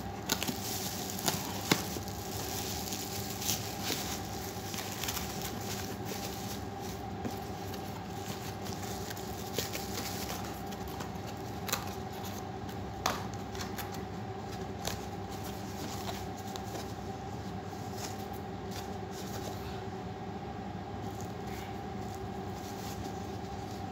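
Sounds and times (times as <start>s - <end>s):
steady background hum: 0.0s - 23.9s.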